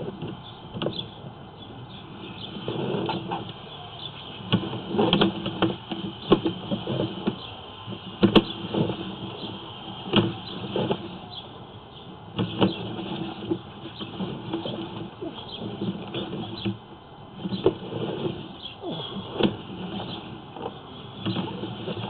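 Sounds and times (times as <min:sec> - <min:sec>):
cable scraping and knocking in pipe: 0:02.4 - 0:03.6, 0:04.3 - 0:11.4, 0:12.3 - 0:22.0.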